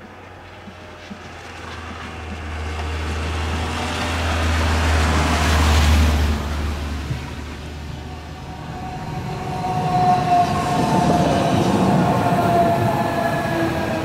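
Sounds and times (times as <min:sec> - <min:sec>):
electric train approaching: 0:00.0 - 0:14.0.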